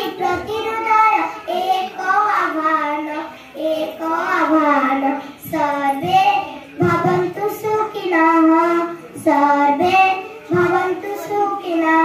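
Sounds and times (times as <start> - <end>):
girl singing into a microphone: 0.0 - 12.0.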